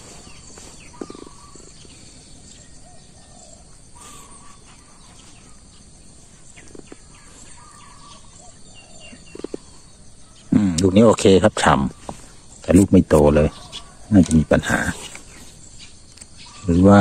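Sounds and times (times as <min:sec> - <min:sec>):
faint bird calls: 0:00.0 - 0:17.0
outdoor background: 0:00.0 - 0:17.0.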